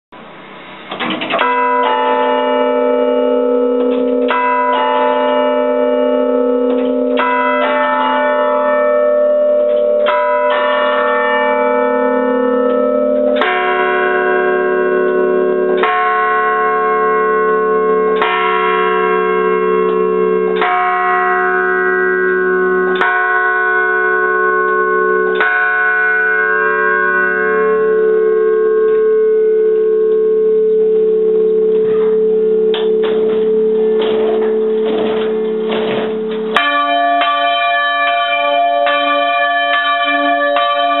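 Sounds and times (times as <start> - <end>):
church bells ringing: 1.0 - 41.0.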